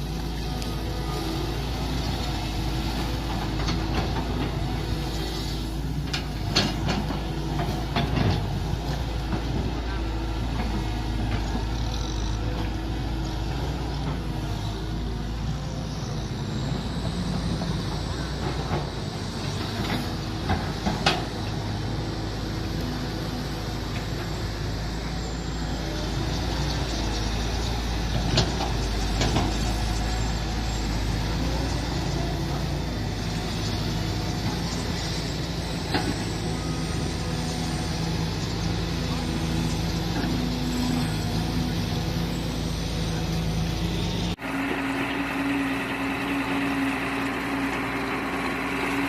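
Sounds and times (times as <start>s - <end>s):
excavator engine running: 0.0s - 49.0s.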